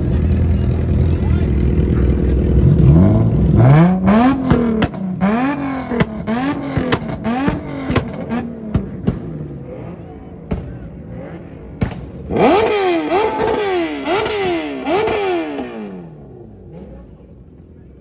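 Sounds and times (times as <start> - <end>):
engine revving with cracks: 0.0 - 17.8.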